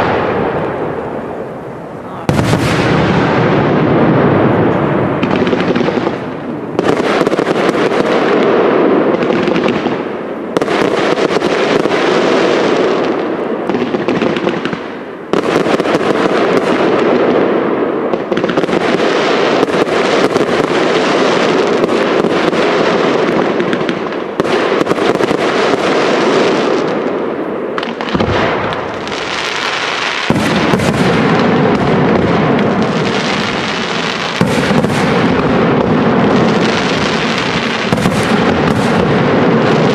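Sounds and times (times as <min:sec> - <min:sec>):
fireworks launching and bursting: 0:00.0 - 0:39.9.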